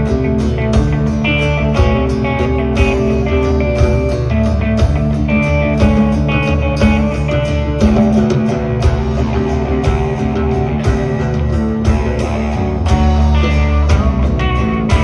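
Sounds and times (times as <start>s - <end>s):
bass guitar: 0.0s - 15.0s
drums steady beat: 0.0s - 15.0s
electric guitar lines: 0.0s - 15.0s.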